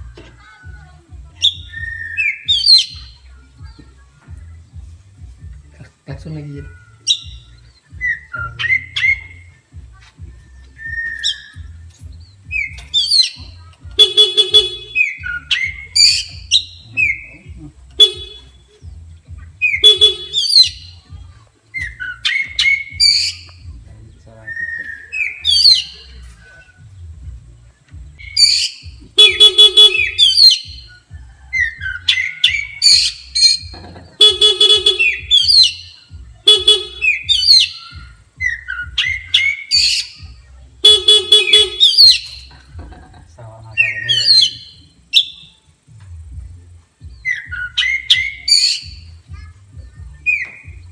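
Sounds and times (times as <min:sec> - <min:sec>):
bird singing whistles and buzzes: 0:00.0 - 0:42.9, 0:43.6 - 0:50.9.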